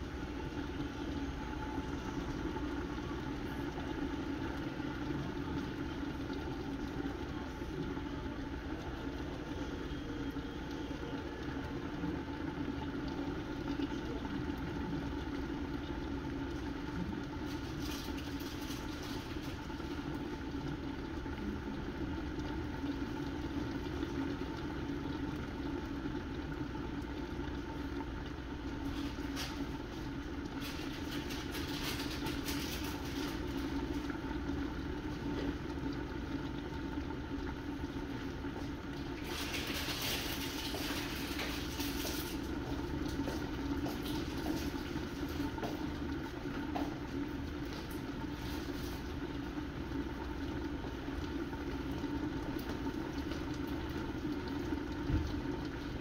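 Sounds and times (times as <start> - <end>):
pot bubbling and sizzling: 0.0 - 56.0
steady low hum: 0.0 - 56.0.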